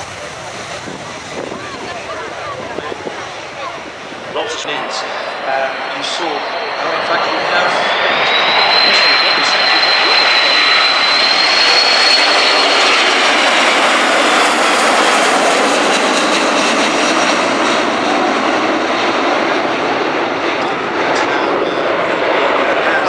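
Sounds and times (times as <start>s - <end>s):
high jet fan whine: 0.0s - 23.0s
jet aircraft flypast roar: 0.0s - 23.0s.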